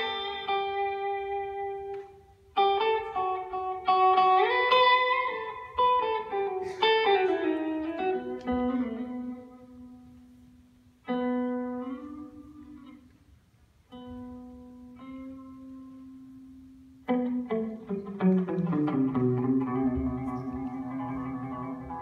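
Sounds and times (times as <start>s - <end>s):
solo electric guitar notes: 0.0s - 22.0s.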